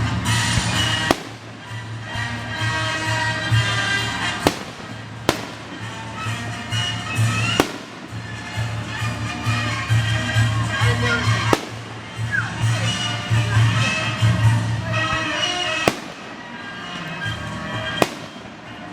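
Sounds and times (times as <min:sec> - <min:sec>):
fireworks bangs: 0:00.0 - 0:18.9.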